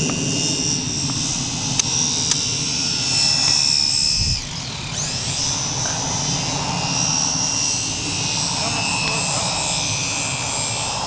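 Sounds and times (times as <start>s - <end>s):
model airplane motor whine: 0.0s - 11.0s.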